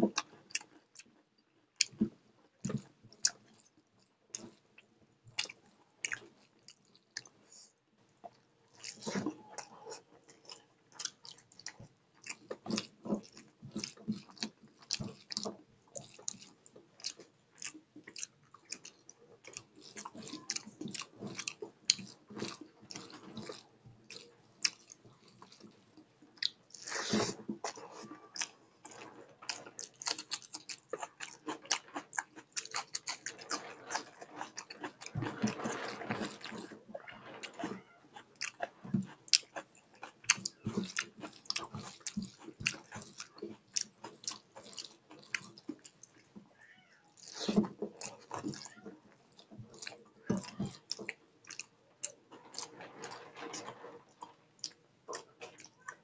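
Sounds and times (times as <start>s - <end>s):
chewing and lip smacking: 0.1s - 4.6s, 5.3s - 46.3s, 47.1s - 56.0s.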